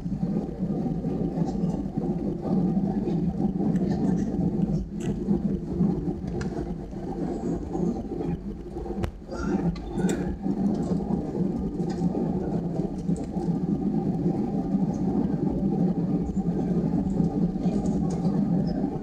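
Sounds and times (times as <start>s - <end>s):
aircraft cabin engine rumble: 0.0s - 19.0s.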